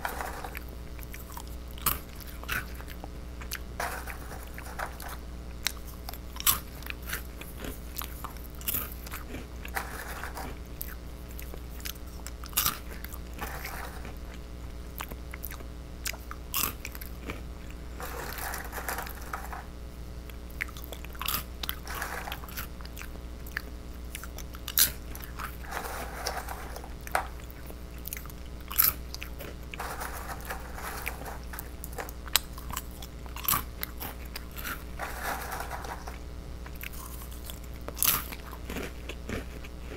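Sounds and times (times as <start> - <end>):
crunching and chewing crackers: 0.0 - 39.9.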